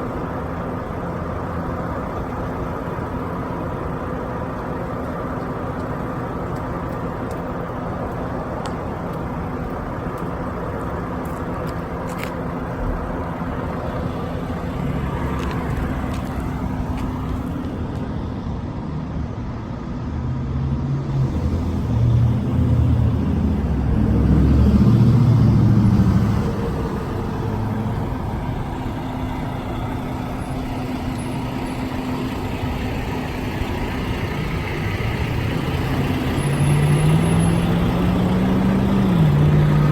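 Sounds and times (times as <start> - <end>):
truck diesel engine running: 0.0 - 18.8, 21.1 - 39.9.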